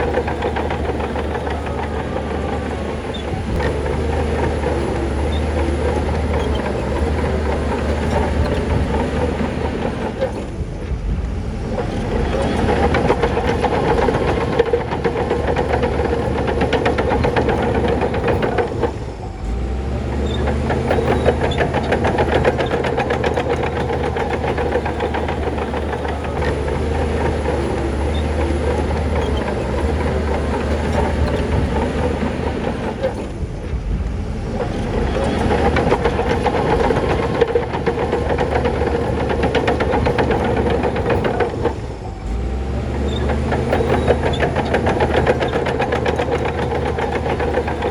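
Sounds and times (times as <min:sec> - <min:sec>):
diesel engine under load: 0:00.0 - 0:47.9
steel tracks clanking: 0:00.0 - 0:47.9.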